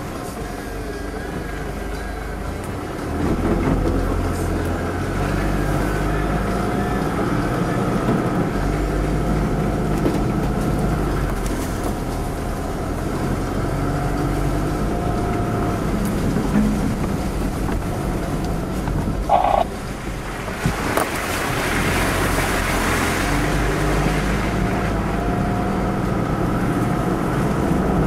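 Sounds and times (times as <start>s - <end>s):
car bumping over ruts: 0.0s - 27.2s
car engine rumbling: 0.0s - 28.0s.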